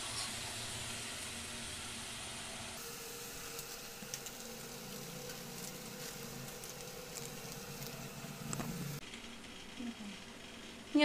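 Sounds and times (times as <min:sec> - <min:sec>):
meat frying in a pan: 0:00.0 - 0:09.0.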